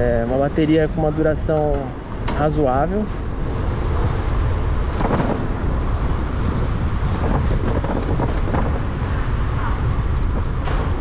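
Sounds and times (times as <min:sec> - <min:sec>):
road noise: 0:00.0 - 0:11.0
wind rumble on microphone: 0:00.0 - 0:11.0.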